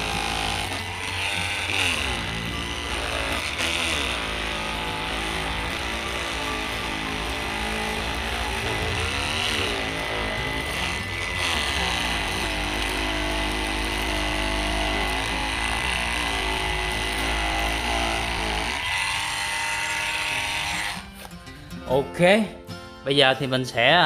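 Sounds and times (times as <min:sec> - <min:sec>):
oscillating multi-tool cutting husk: 0:00.0 - 0:21.3.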